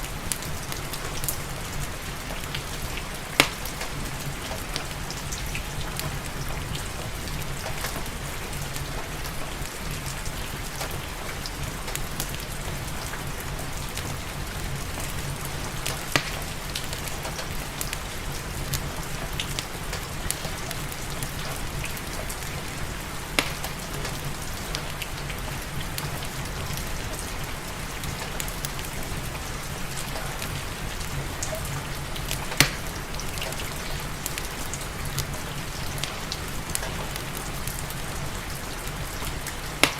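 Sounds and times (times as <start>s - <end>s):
steady rain hissing: 0.0s - 39.9s
wood fire crackling and popping: 0.0s - 39.9s.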